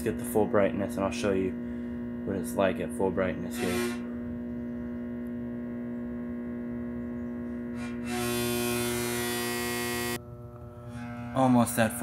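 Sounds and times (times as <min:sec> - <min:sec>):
fixture parts buzzing: 0:00.0 - 0:06.2, 0:06.8 - 0:12.0
floodlight ballast humming: 0:00.0 - 0:12.0.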